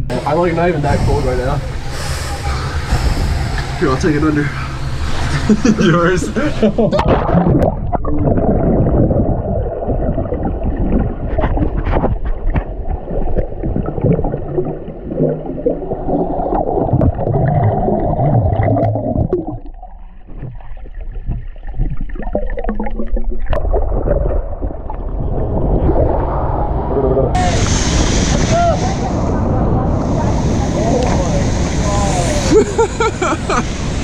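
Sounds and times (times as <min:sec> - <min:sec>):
gurgling bubbles: 0:00.0 - 0:34.0
muffled underwater rushing water: 0:00.0 - 0:34.0.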